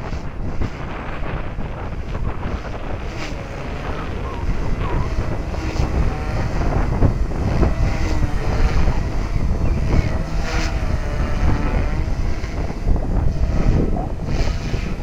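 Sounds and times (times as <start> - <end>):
rc helicopter whine: 0.0 - 15.0
wind buffeting microphone: 0.0 - 15.0.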